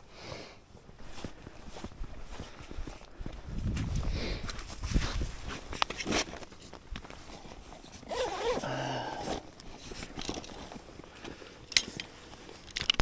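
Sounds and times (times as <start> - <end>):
footsteps crunching in snow: 0.1 - 12.7.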